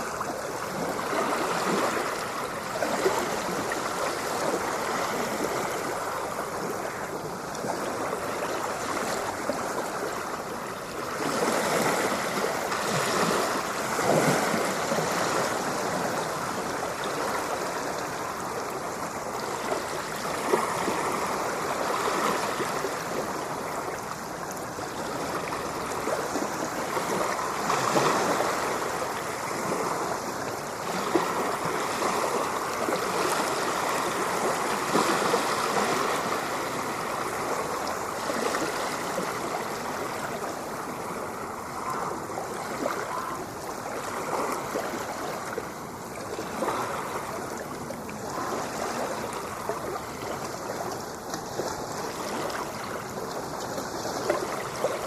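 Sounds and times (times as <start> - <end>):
ocean surf: 0.0 - 55.0.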